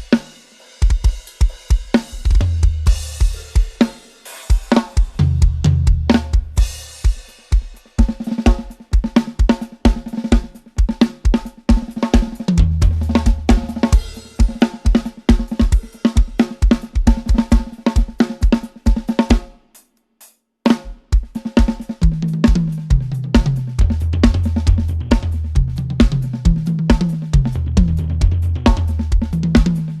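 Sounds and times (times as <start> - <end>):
drum kit beat: 0.0 - 30.0.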